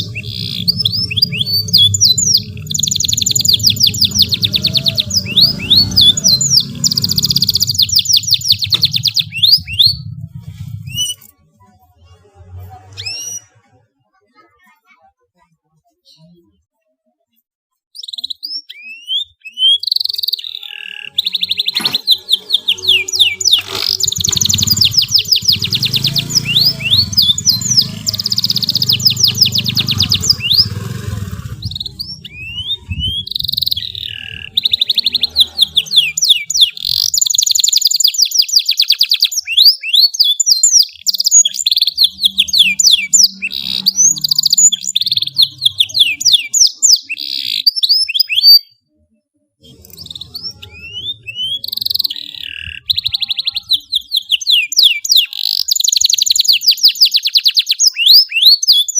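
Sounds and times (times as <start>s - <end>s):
canary singing trills: 0.0s - 13.8s, 17.9s - 49.0s, 49.6s - 58.9s.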